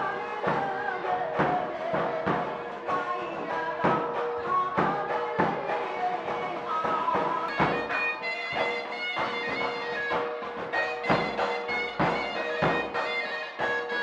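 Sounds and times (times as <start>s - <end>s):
drum strokes: 0.0s - 14.0s.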